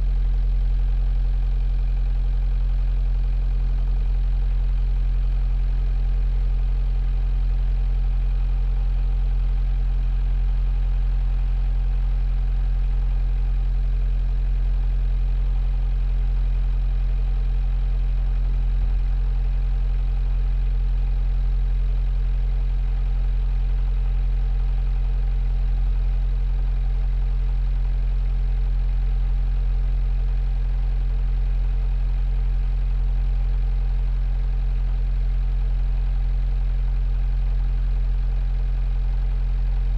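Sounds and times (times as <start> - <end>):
diesel engine low hum: 0.0 - 39.9.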